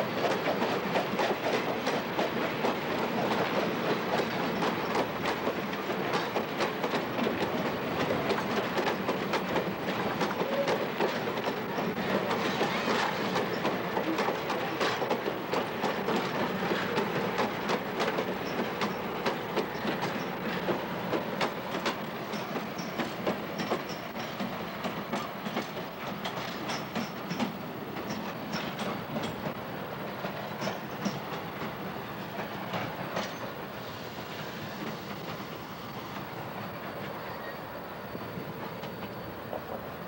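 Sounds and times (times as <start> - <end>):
train wheels clickety-clack: 0.0 - 40.0.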